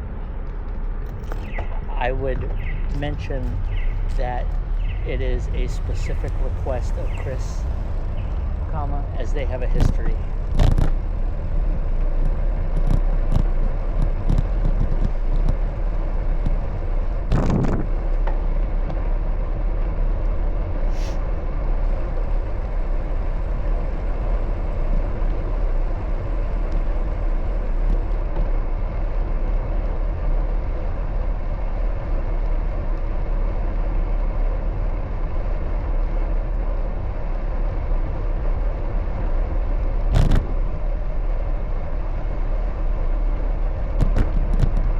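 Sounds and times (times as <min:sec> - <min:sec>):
bicycle wind and road noise: 0:00.0 - 0:44.9
passing traffic: 0:00.0 - 0:44.9
wind rumble on microphone: 0:00.0 - 0:44.9.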